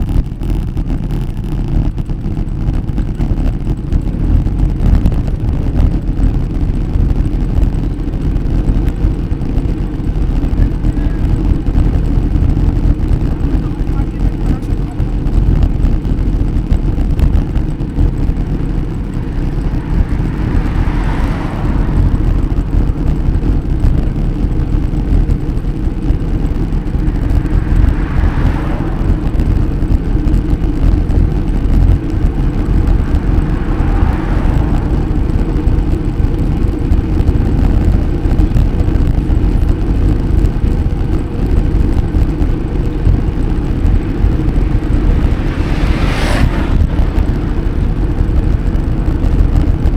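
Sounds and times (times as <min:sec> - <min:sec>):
road noise: 0:00.0 - 0:49.9
wind on microphone: 0:00.0 - 0:49.9.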